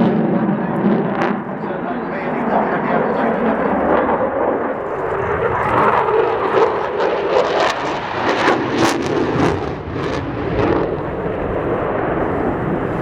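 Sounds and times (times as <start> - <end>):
jet engines roaring with crackles: 0.0 - 13.0.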